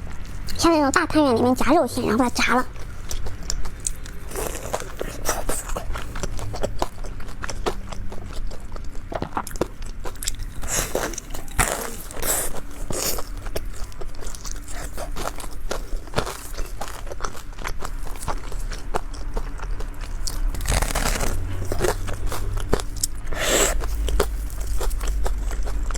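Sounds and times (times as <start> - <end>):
crunchy food chewing: 0.0 - 25.9.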